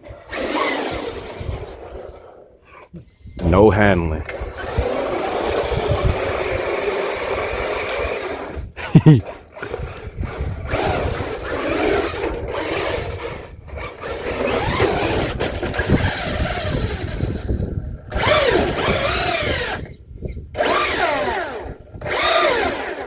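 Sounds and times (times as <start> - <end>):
electric motor whining: 0.0 - 3.4, 4.3 - 23.0.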